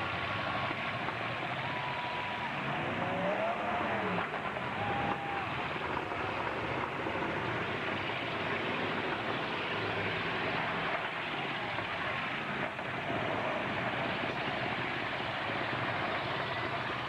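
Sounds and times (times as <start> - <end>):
truck engines running: 0.0 - 17.0.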